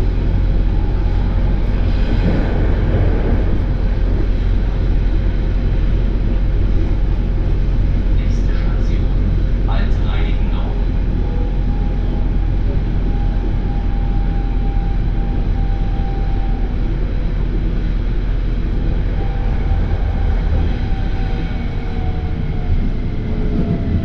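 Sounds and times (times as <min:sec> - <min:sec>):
electric train rumble: 0:00.0 - 0:24.0
faint train whine: 0:00.0 - 0:24.0.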